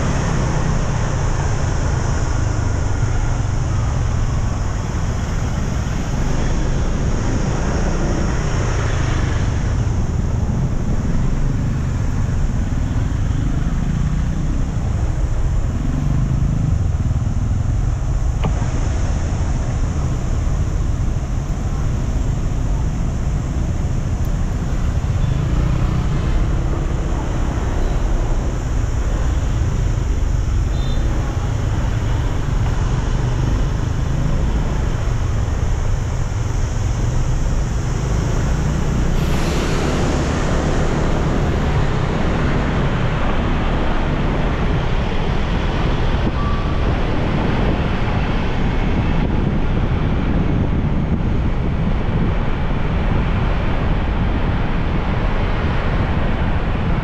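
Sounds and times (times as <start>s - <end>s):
passing vehicle: 0.0s - 57.0s
road noise: 0.0s - 57.0s
wind rushing over microphone: 0.0s - 57.0s.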